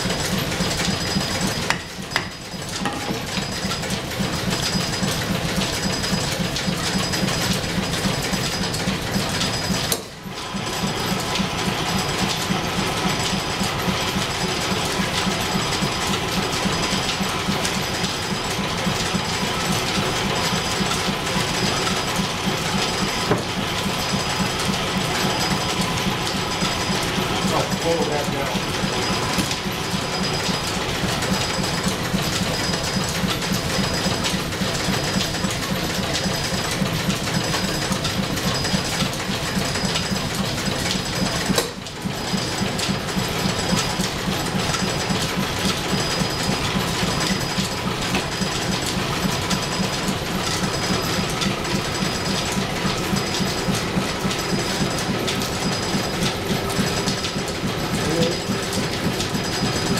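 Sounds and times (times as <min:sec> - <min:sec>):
drill press clattering: 0:00.0 - 0:59.9.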